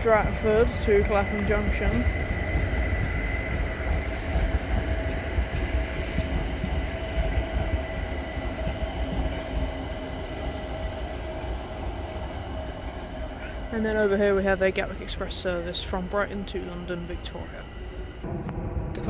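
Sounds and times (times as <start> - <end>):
train wheels rumbling on rail: 0.0 - 19.0
train whine: 0.0 - 19.0.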